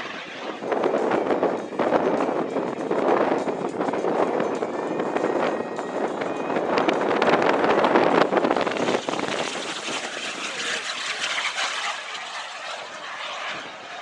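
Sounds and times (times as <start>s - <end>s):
small jet engine flying past: 0.0s - 14.0s.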